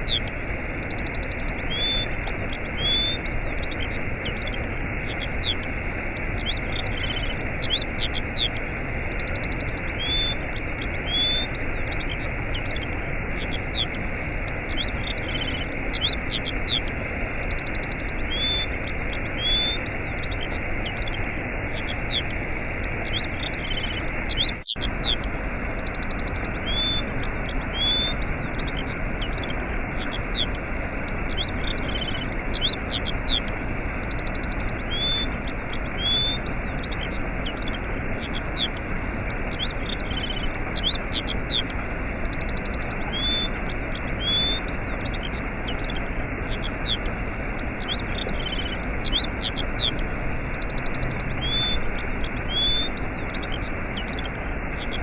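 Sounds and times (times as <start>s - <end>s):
small birds chirping: 0.0s - 55.0s
waterfall rushing: 0.0s - 55.0s.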